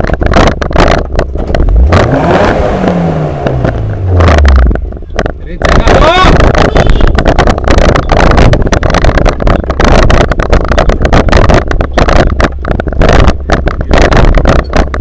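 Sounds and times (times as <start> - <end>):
rattling knocks on microphone: 0.0 - 1.7, 3.4 - 15.0
vehicle engine and road rumble: 0.0 - 15.0.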